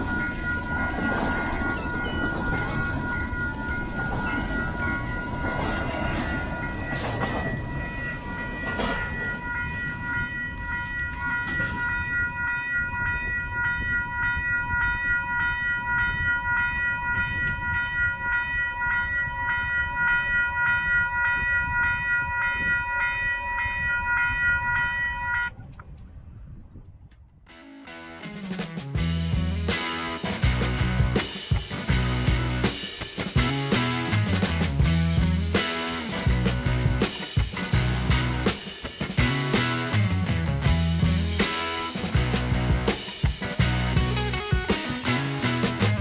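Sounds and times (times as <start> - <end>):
train cars clanking: 0.0 - 23.1, 28.6 - 46.0
train cars rumbling past: 0.0 - 23.2, 29.0 - 46.0
railroad crossing bell ringing: 0.0 - 25.8, 29.0 - 46.0.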